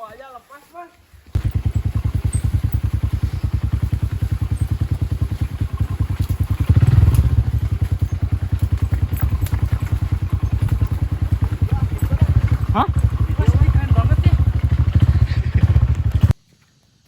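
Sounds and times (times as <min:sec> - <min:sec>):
motorcycle engine running: 0:01.3 - 0:16.4.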